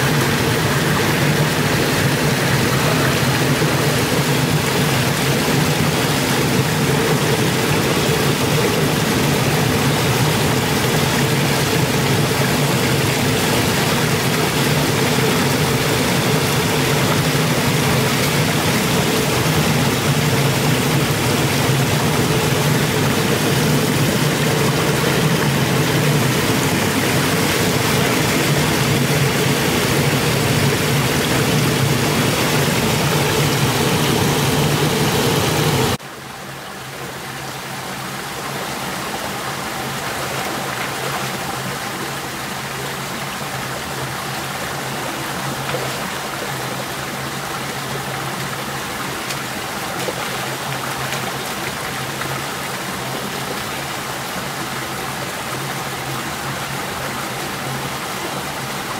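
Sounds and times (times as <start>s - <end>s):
stream flowing: 0.0s - 58.9s
waterfall pouring over rocks: 0.0s - 58.9s.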